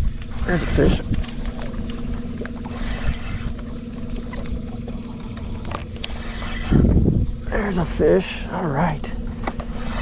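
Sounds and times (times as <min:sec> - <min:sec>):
wind rumble on microphone: 0:00.0 - 0:08.1
water trickling: 0:00.0 - 0:10.0
small electric motor humming: 0:00.4 - 0:07.5, 0:08.8 - 0:10.0.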